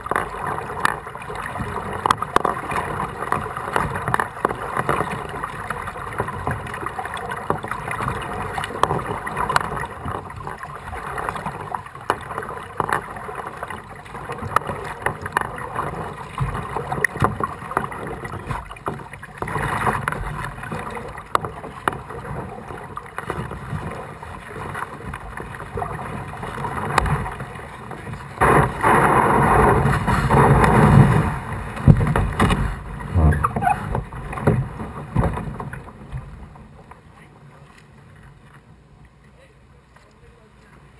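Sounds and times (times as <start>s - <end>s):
paddle splashing water: 0.0s - 40.9s.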